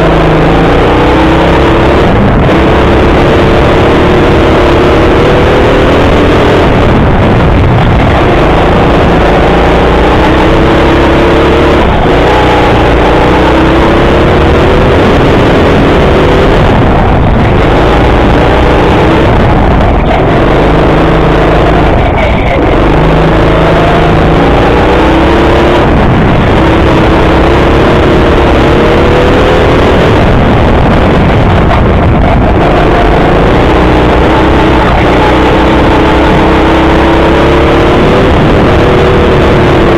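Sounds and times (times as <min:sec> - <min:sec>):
go-kart motor at speed: 0:00.0 - 0:39.9.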